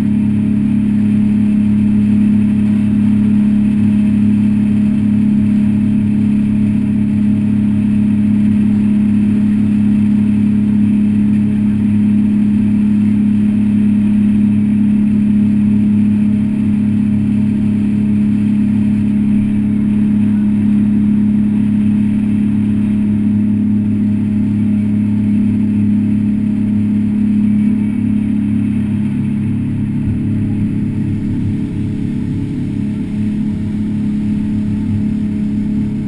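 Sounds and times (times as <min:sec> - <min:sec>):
boat engine droning: 0:00.0 - 0:36.0
hull rushing through water: 0:00.0 - 0:36.0.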